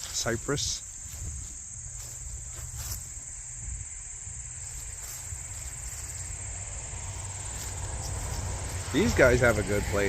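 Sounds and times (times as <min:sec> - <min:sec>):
crickets trilling: 0:00.0 - 0:10.0
low rumble: 0:01.7 - 0:10.0.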